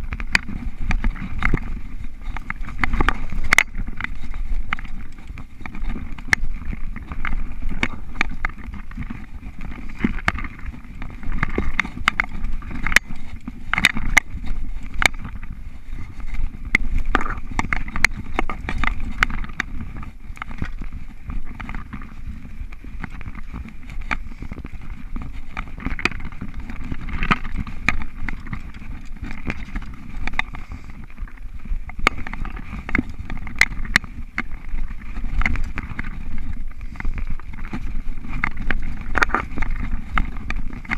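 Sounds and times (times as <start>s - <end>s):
bike rattling and clicking: 0.0s - 40.9s
bike tyres rumbling on dirt: 0.0s - 40.9s.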